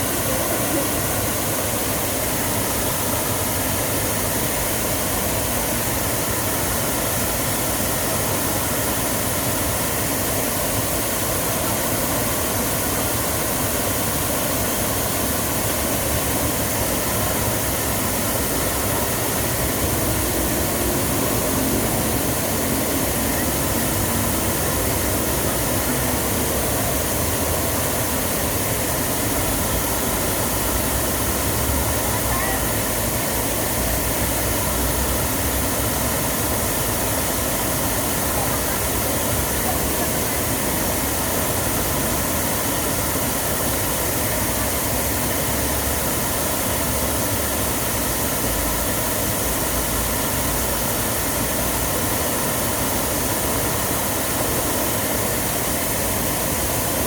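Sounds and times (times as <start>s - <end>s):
rush of falling water: 0.0s - 57.0s.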